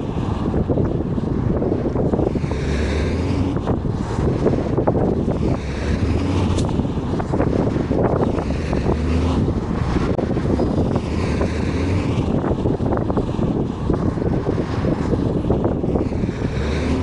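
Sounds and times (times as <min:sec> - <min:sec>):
bus engine and road rumble: 0:00.0 - 0:17.0
wind buffeting microphone: 0:00.0 - 0:17.0.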